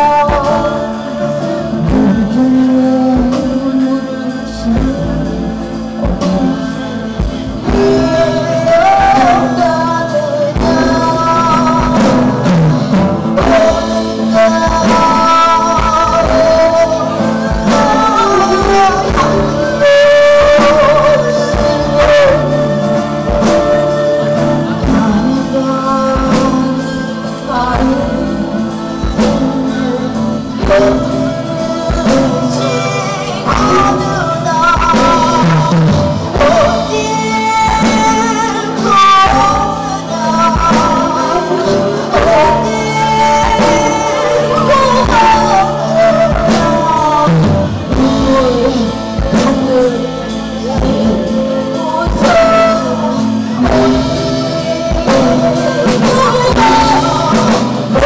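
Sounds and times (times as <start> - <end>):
acoustic guitar: 0.0 - 58.0
drums: 0.0 - 58.0
keyboard: 0.0 - 58.0
woman singing lead: 0.0 - 58.0.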